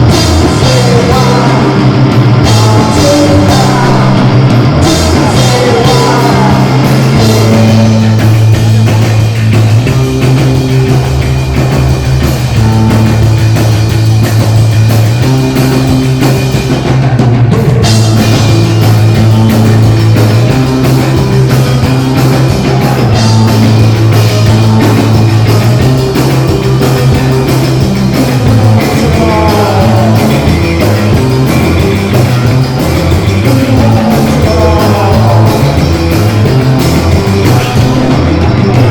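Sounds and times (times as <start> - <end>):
drum kit: 0.0 - 38.9
long low notes: 0.0 - 38.9
rock band playing: 0.0 - 38.9.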